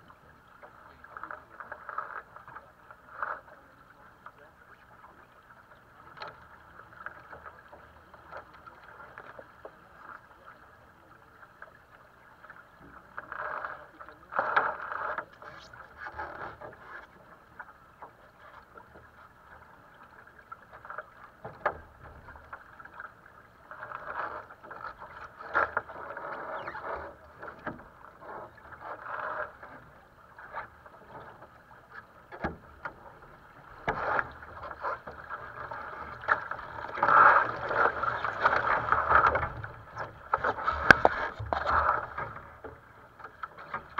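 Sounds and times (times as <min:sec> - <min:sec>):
water rushing along a boat hull: 0:00.0 - 0:43.9.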